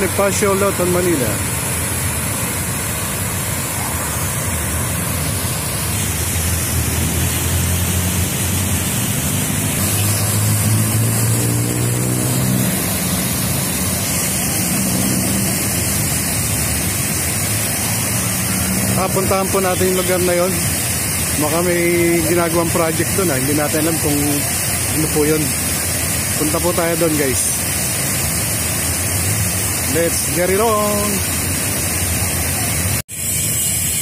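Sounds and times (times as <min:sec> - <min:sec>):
fountain water splashing: 0:00.0 - 0:34.0
road traffic drone: 0:00.0 - 0:34.0.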